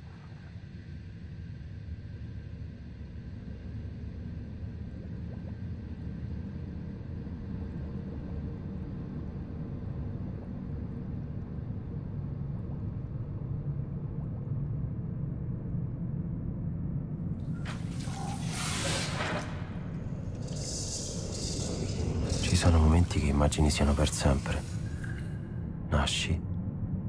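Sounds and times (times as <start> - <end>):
steady low rumble: 0.5 - 27.0.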